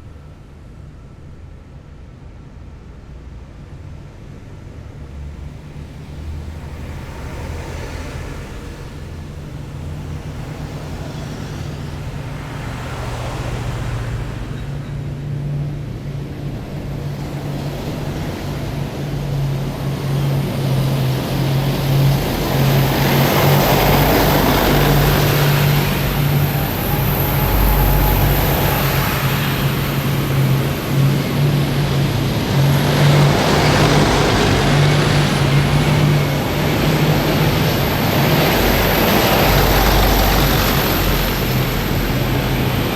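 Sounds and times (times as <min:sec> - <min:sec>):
heavy diesel vehicles passing: 0:00.0 - 0:42.9.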